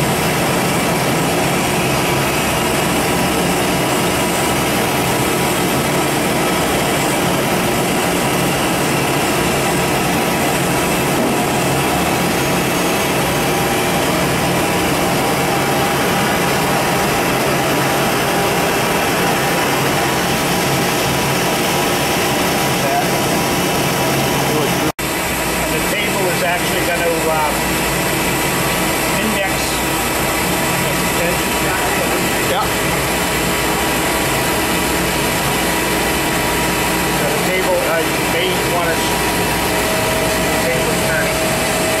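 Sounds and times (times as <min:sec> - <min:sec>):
lathe running with hum and hiss: 0:00.0 - 0:42.0.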